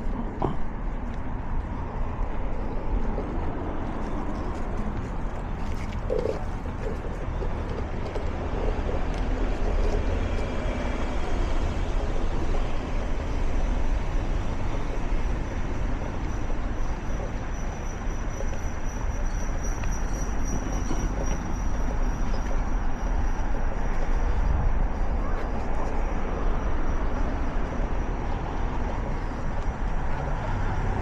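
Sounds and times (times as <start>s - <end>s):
passing vehicle rumble: 0.0s - 31.0s.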